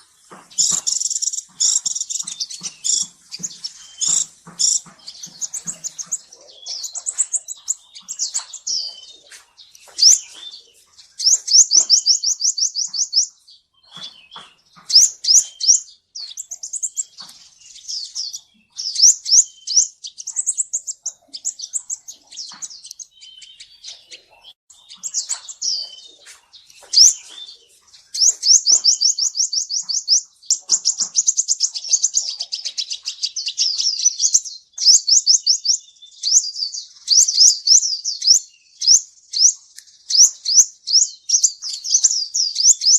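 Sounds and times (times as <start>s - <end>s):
bird chirping and trilling: 0.0s - 42.9s.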